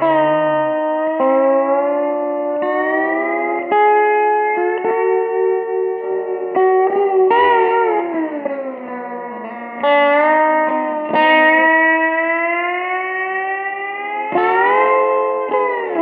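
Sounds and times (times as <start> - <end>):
slide electric guitar: 0.0 - 16.0.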